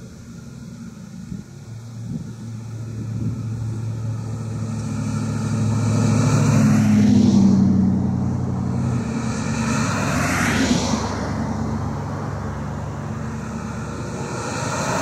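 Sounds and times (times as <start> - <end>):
diesel locomotive drone: 0.0 - 15.0
sweeping whoosh: 2.4 - 15.0.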